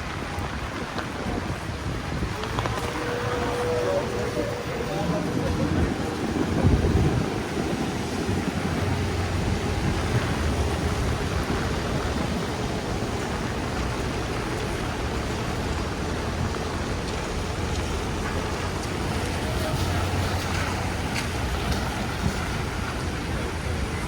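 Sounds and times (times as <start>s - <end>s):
rain on street: 0.0s - 24.0s
traffic rumble: 0.0s - 24.0s.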